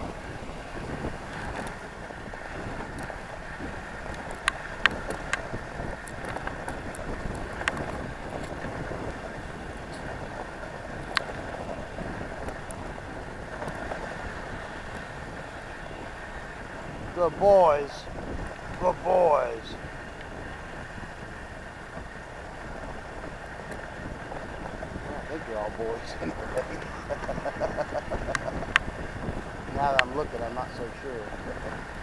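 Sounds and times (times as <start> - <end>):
sled runners rushing over snow: 0.0 - 32.0.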